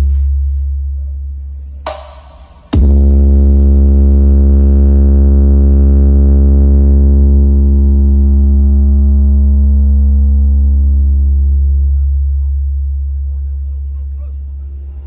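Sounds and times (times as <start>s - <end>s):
distorted deep bass tone: 0.0s - 15.0s.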